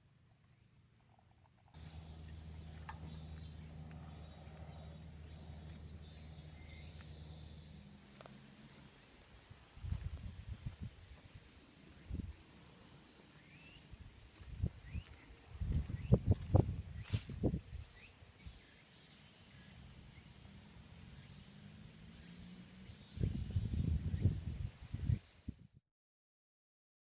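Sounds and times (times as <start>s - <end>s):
insects chirring: 1.8s - 25.7s.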